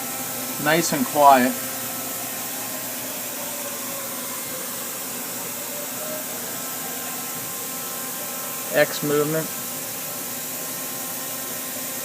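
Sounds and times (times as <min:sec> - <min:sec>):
lathe hissing and humming: 0:00.0 - 0:12.0.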